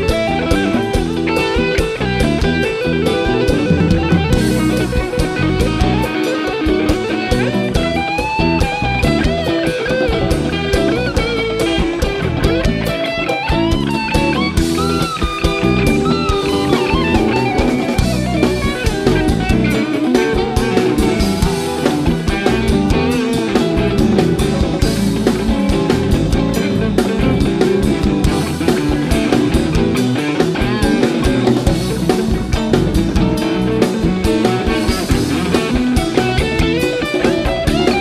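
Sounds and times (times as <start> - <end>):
bass guitar: 0.0 - 38.0
drum kit: 0.0 - 38.0
electric guitar lead: 0.0 - 38.0.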